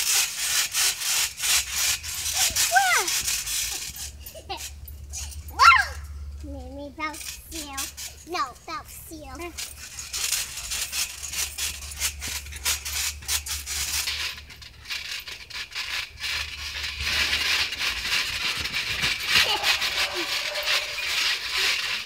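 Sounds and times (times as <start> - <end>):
trampoline knocks and creaks: 0.0 - 22.0.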